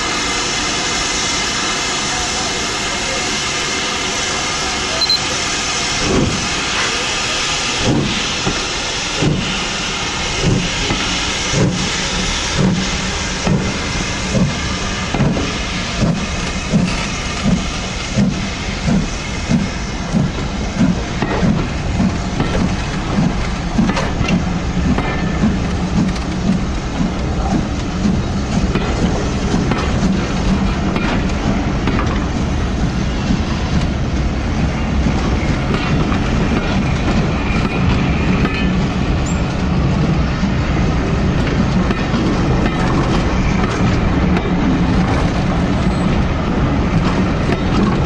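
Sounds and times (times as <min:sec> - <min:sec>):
steam hissing: 0:00.0 - 0:48.0
steam locomotive exhaust chuffs: 0:00.0 - 0:48.0.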